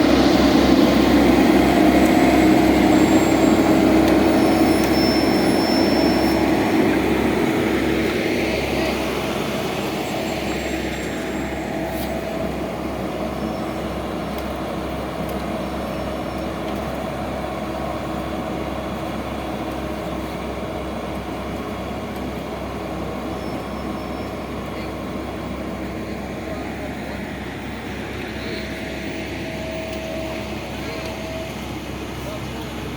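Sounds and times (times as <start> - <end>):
paving machinery engine humming: 0.0 - 32.9.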